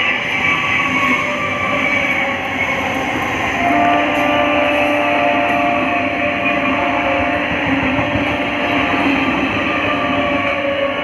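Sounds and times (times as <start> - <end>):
train steady whine: 0.0 - 11.0.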